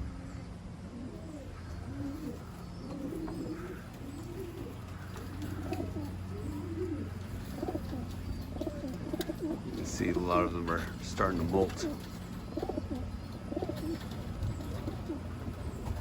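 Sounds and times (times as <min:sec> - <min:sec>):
pigeons cooing: 0:00.0 - 0:16.0
steady low hum: 0:00.0 - 0:16.0.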